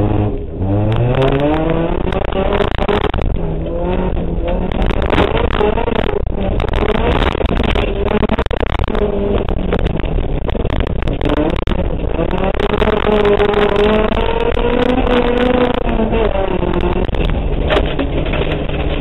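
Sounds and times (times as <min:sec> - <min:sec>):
car engine revving hard: 0:00.0 - 0:17.9
gravel striking car underside: 0:00.0 - 0:19.0.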